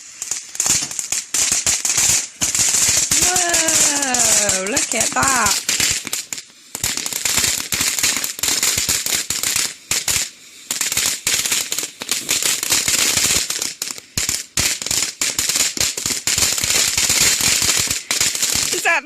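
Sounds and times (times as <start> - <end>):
firework crackling pops: 0.0 - 19.0
firework hiss: 0.0 - 19.0.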